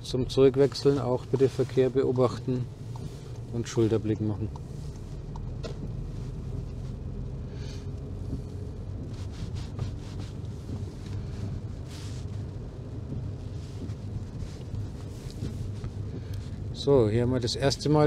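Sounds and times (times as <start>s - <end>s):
car engine and tyres on wet road: 0.0s - 18.0s.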